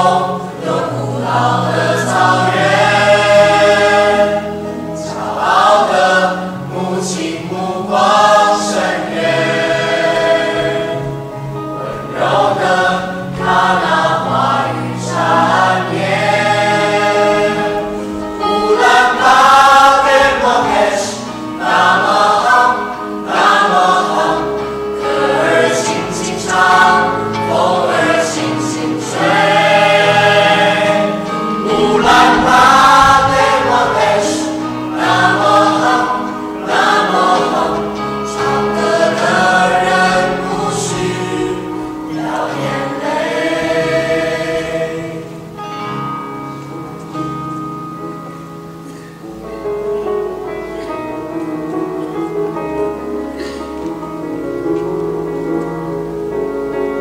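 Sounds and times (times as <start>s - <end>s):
choir singing held notes: 0.0s - 57.0s
low accompaniment notes: 0.0s - 57.0s.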